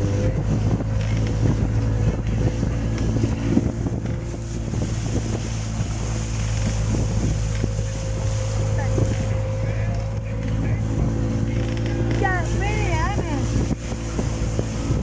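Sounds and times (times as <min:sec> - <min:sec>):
outboard motor running: 0:00.0 - 0:15.0
wind on microphone: 0:00.0 - 0:15.0.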